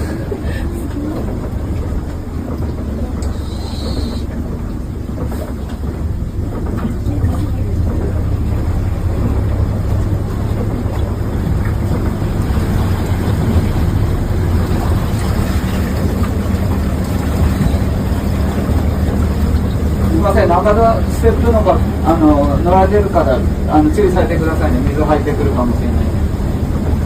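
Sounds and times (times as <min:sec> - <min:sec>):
bus engine rumbling: 0:00.0 - 0:27.0
road and rain noise: 0:00.0 - 0:27.0.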